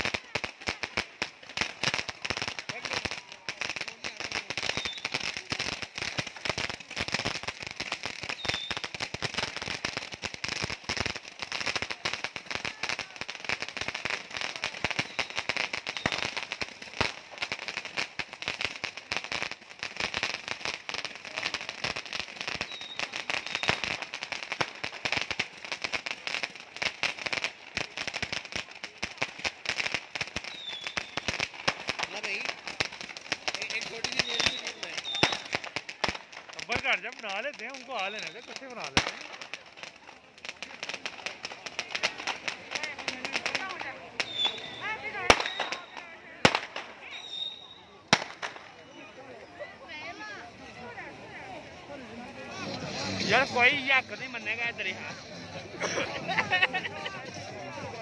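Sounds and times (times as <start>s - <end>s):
firecrackers banging: 0.0s - 49.2s, 49.9s - 58.0s.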